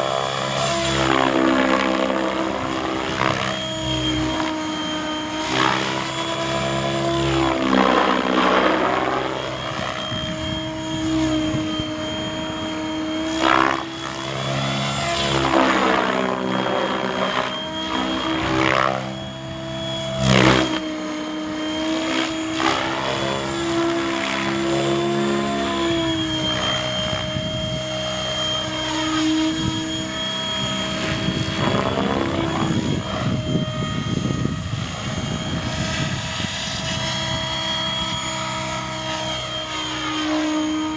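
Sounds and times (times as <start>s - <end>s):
helicopter whooshing past: 0.0s - 40.9s
model helicopter motor whine: 0.0s - 40.9s.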